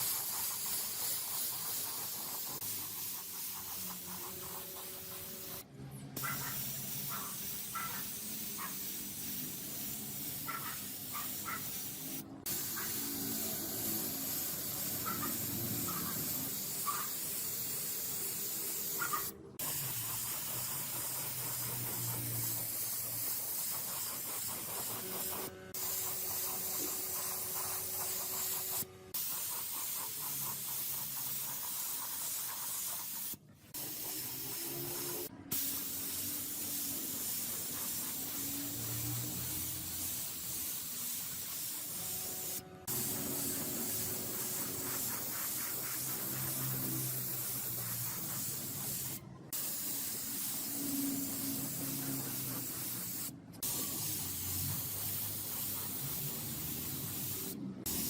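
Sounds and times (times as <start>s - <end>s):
spraying hiss: 0.0s - 58.0s.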